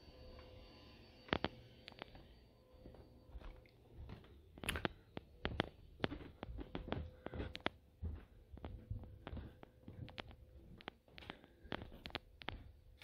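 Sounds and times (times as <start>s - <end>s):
footsteps on carpeted stairs: 2.1s - 13.0s.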